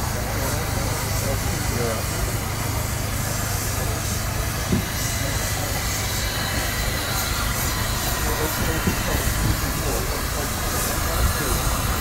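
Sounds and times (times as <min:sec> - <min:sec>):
steam car low rumble: 0:00.0 - 0:12.0
steam hissing: 0:00.0 - 0:12.0.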